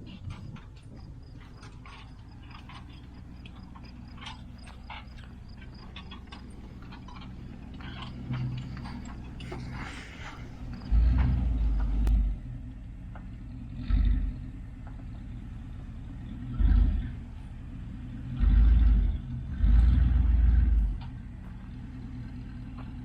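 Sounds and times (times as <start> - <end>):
engine throttle surges: 0.0 - 23.0
vehicle engine idling: 0.0 - 23.0.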